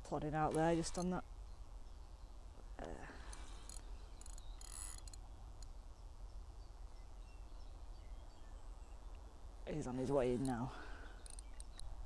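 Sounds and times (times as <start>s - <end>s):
faint bird chirps: 0.9s - 12.0s.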